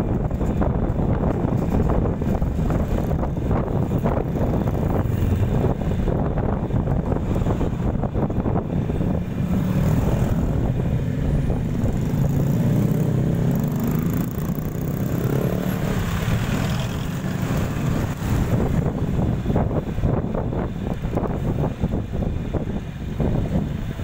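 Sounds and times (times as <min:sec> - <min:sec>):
vehicle road noise: 0:00.0 - 0:24.0
wind over microphone: 0:00.0 - 0:24.0.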